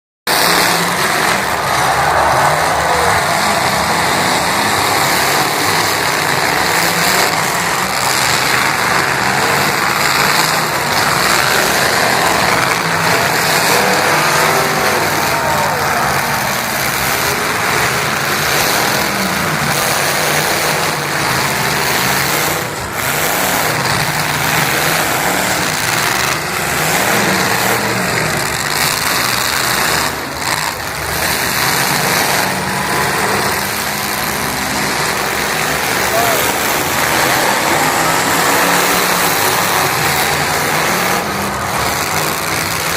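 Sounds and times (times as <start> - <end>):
car engines revving: 0.2 - 42.9
dense wash of noise: 0.3 - 28.0, 29.3 - 42.9.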